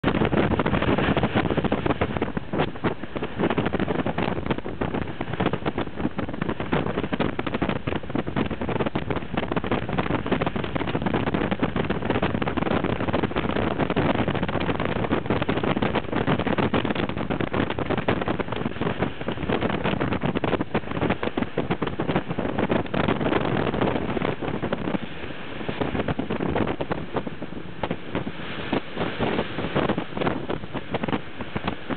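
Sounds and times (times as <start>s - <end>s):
boat engine rushing: 0.0s - 31.9s
water rushing: 0.0s - 31.9s
wind buffeting microphone: 0.0s - 31.9s.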